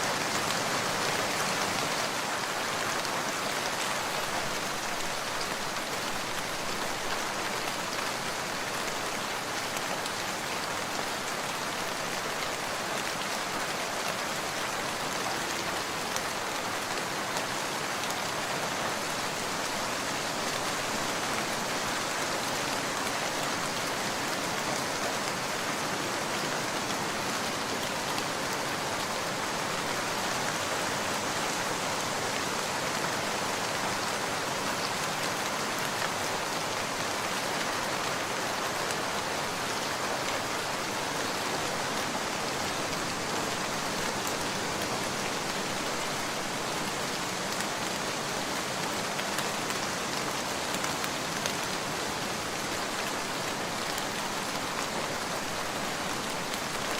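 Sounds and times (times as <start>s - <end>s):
rain pattering: 0.1s - 56.9s.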